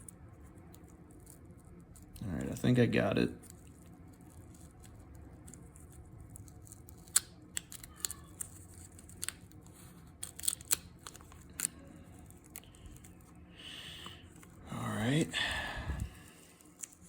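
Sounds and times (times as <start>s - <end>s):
wax paper wrapper crackling: 0.0s - 17.0s.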